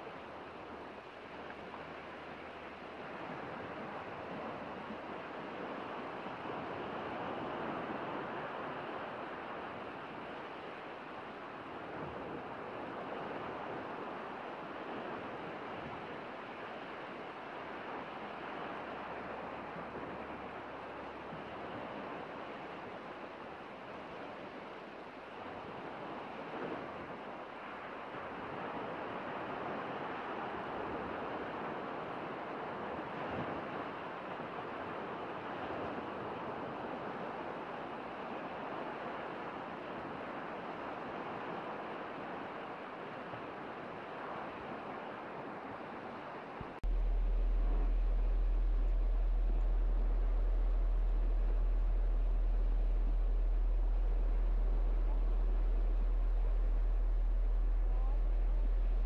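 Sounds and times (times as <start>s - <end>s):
sea surf on sandy shore: 0.0s - 59.0s
wind: 0.0s - 59.0s.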